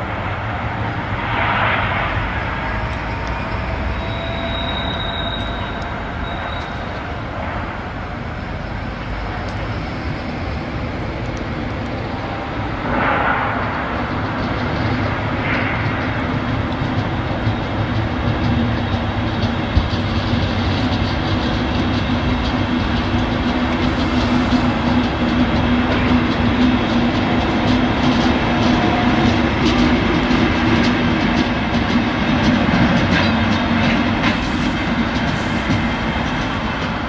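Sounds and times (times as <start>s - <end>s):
diesel locomotive engine drone: 0.0s - 37.0s.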